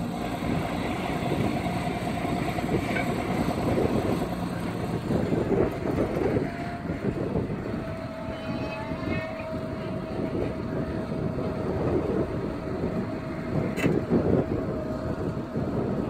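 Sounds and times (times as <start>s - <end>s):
tractor engine under load: 0.0s - 8.2s, 9.0s - 16.0s
steady whine: 0.0s - 16.0s.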